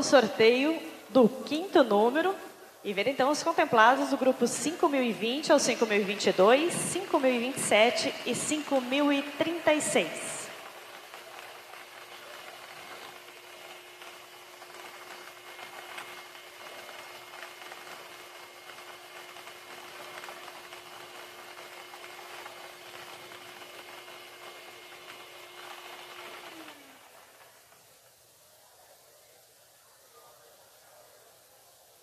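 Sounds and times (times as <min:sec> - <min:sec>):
blower humming: 0:00.0 - 0:32.0.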